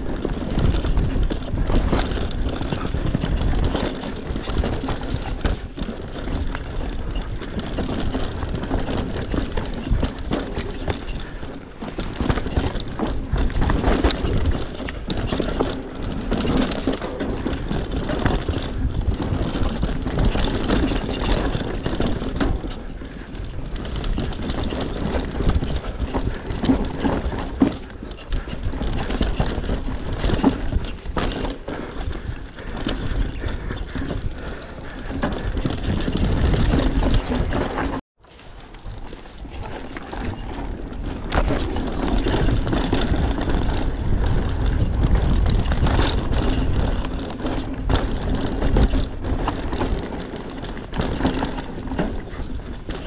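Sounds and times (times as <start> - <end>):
mountain bike rattling on dirt trail: 0.0 - 53.0.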